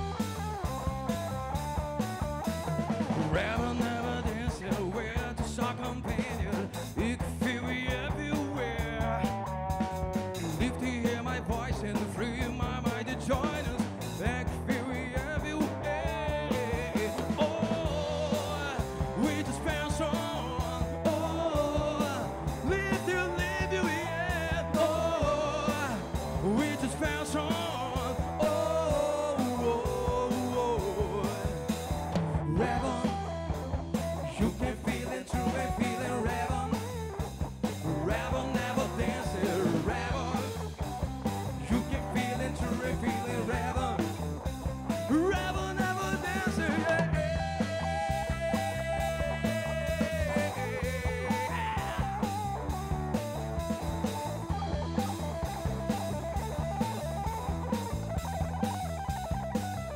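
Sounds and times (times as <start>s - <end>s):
drum kit: 0.0s - 59.9s
electric bass: 0.0s - 59.9s
electric guitar: 0.0s - 59.9s
man singing lead: 2.8s - 57.9s.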